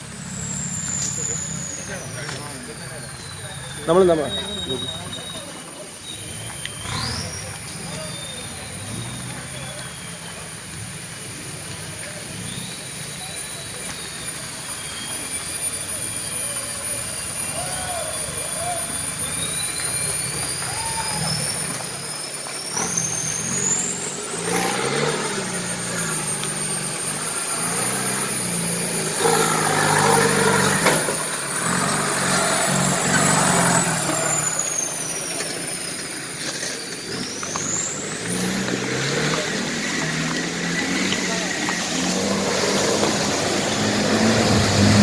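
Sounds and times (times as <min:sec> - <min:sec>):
off-road engine revving: 0:00.0 - 0:45.0.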